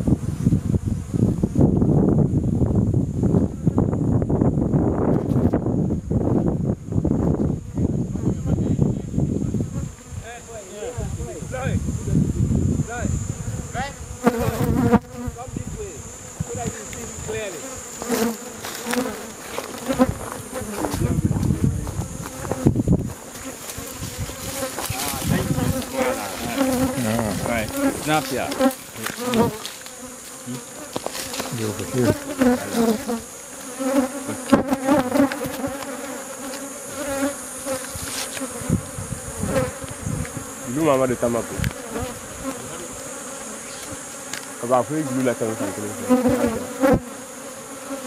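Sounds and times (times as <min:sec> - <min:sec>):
honey bees buzzing: 0:00.0 - 0:48.0.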